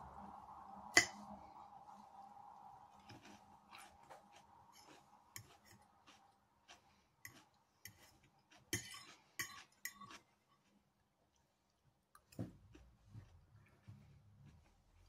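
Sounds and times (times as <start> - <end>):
soft chewing: 1.0 - 15.0.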